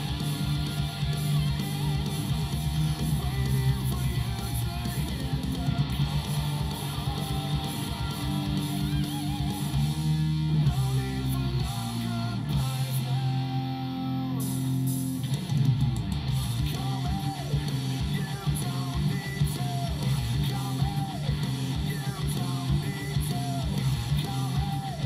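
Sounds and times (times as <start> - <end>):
heavy rock song with electric guitar: 0.0 - 25.0.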